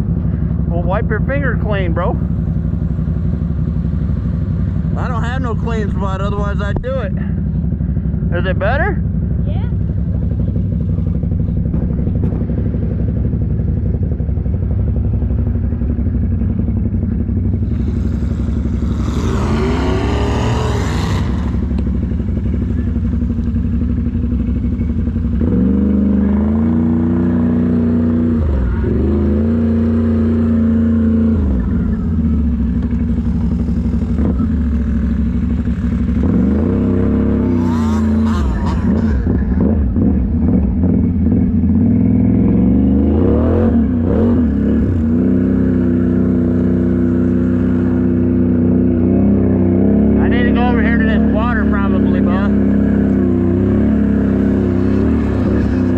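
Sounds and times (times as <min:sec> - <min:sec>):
off-road engine revving: 0:00.0 - 0:55.9.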